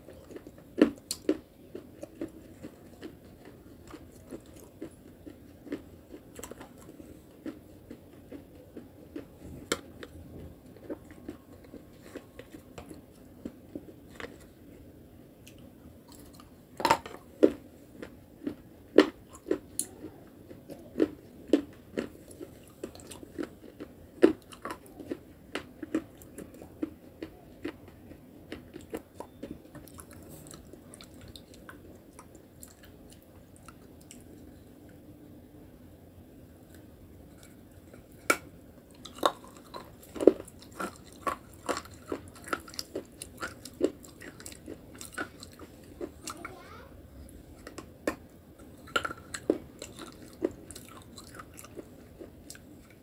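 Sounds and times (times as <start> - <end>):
person chewing ice cream: 0.0 - 35.0, 36.4 - 46.6, 47.2 - 53.0.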